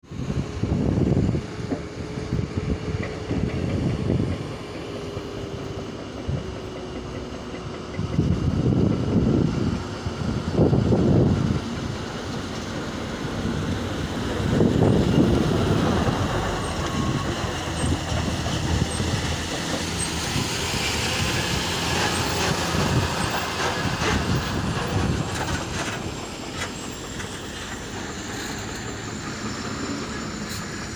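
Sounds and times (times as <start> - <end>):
heavy machinery engine rumble: 0.1 - 30.9.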